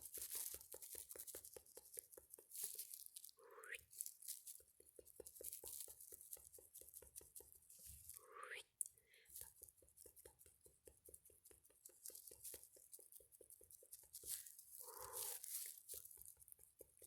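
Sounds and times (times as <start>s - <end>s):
faint rapid clicking: 0.0s - 8.2s, 8.8s - 17.0s.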